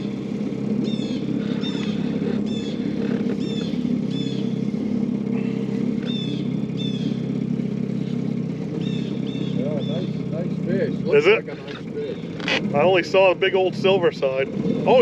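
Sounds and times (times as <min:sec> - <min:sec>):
small outboard motor running: 0:00.0 - 0:15.0.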